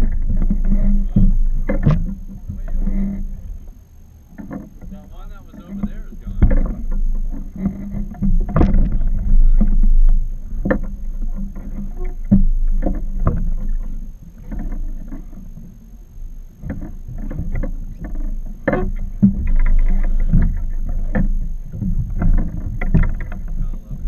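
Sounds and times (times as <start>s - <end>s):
sharp knocks on boat: 0.0s - 3.3s, 4.4s - 15.5s, 16.6s - 24.0s
wind and water against hull: 0.0s - 24.0s.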